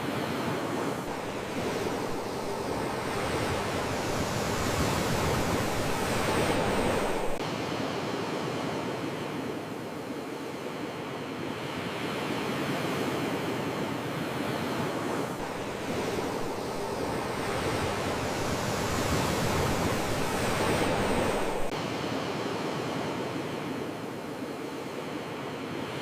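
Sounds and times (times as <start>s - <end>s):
sea surf: 0.0s - 26.0s.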